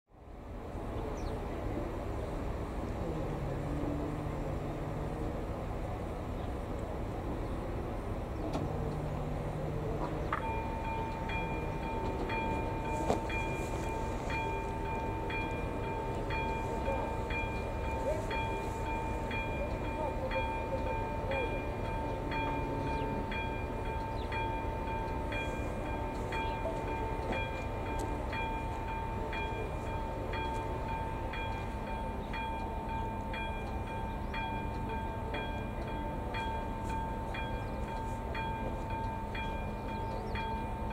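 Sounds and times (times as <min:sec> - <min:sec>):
level crossing warning bell: 0:01.9 - 0:40.9.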